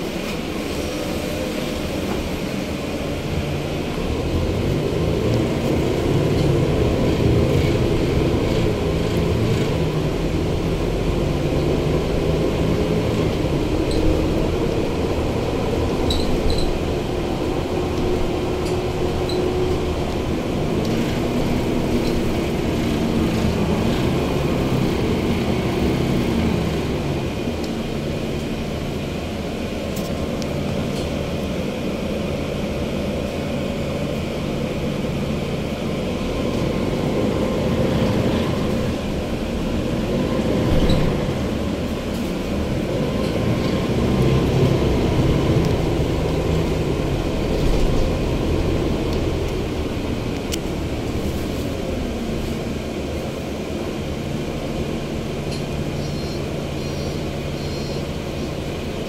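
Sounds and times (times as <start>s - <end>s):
bus diesel engine: 0.0s - 59.0s
road and cabin noise: 0.0s - 59.0s.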